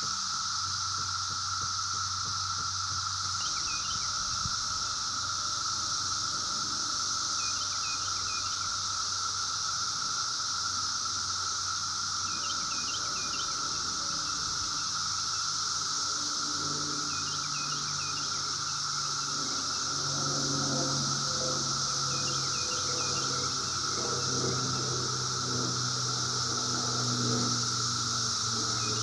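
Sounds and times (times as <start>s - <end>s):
cicadas buzzing: 0.0s - 29.0s.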